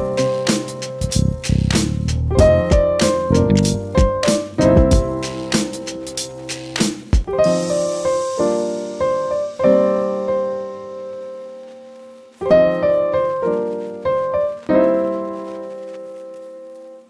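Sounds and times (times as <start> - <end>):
soft piano chords: 0.0 - 1.5, 2.3 - 6.6, 7.2 - 17.0.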